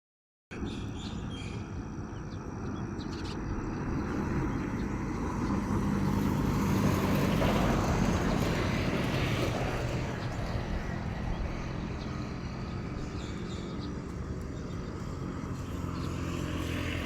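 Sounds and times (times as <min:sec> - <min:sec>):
engine humming with a noisy rush: 0:00.5 - 0:17.0.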